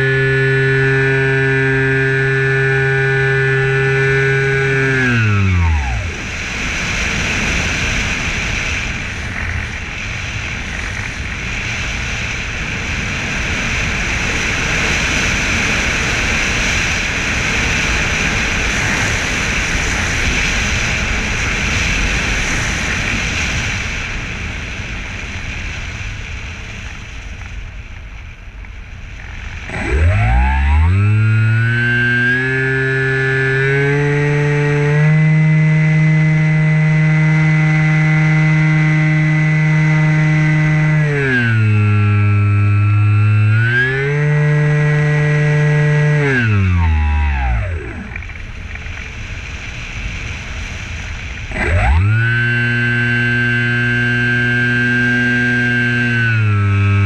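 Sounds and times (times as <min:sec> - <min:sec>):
electric motor propeller whine: 0:00.0 - 0:24.5, 0:29.2 - 0:49.9, 0:50.5 - 0:57.0
wind rushing over microphone: 0:00.0 - 0:57.0.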